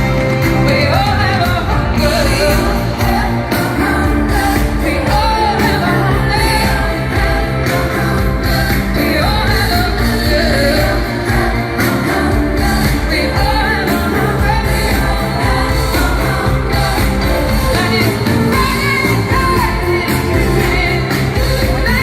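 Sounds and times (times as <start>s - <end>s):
pop-rock band playing: 0.0s - 22.0s
woman singing: 0.4s - 22.0s.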